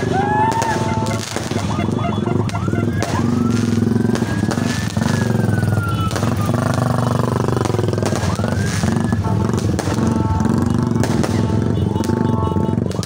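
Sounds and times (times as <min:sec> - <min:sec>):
firework whistle: 0:00.0 - 0:13.0
fireworks bangs: 0:00.0 - 0:13.0
traffic engines humming: 0:00.0 - 0:13.0.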